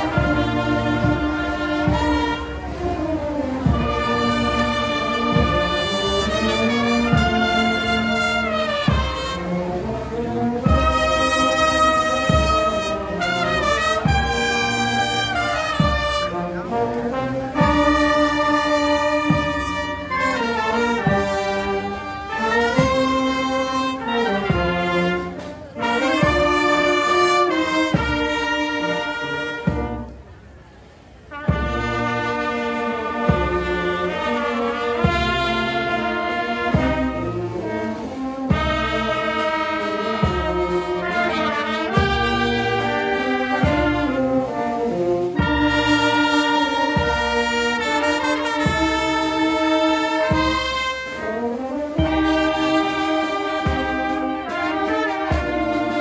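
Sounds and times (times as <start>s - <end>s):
steady drum beat: 0.0s - 30.1s, 31.4s - 56.0s
marching band playing: 0.0s - 56.0s.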